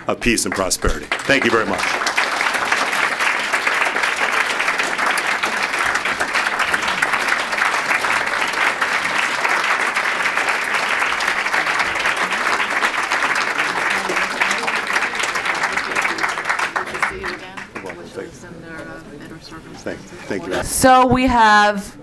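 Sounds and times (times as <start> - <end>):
audience applauding: 0.0 - 18.3.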